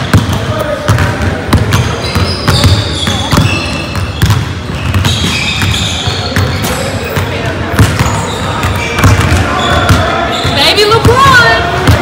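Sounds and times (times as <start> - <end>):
basketballs bouncing on hardwood: 0.0 - 12.0
sneaker squeaks: 0.0 - 12.0.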